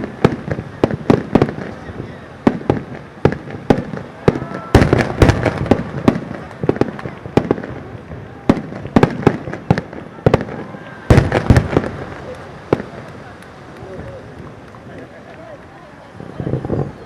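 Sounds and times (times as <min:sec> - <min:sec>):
fireworks bursting with echo: 0:00.0 - 0:17.0.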